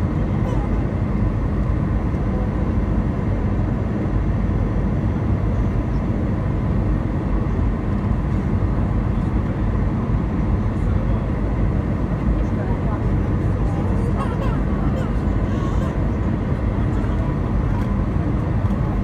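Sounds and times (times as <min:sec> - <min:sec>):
rumble of engines and airflow: 0:00.0 - 0:19.0.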